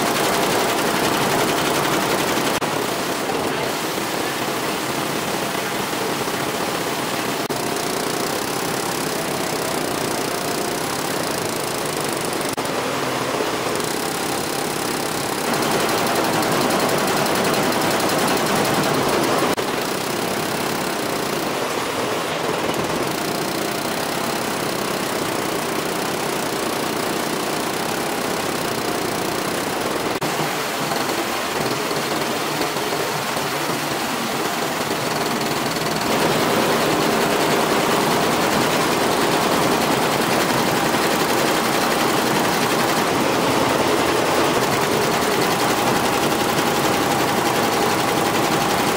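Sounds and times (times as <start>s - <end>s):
embroidery machine stitching: 0.0s - 3.7s, 4.3s - 48.9s.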